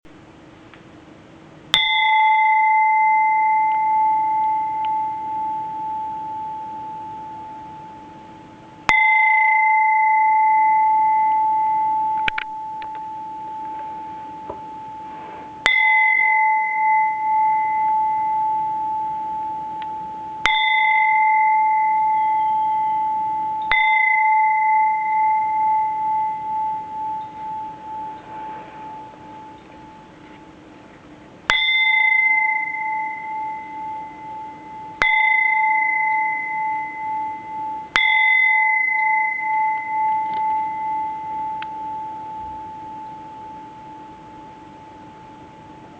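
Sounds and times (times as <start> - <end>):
temple bell ringing: 1.7 - 30.7, 31.5 - 45.9.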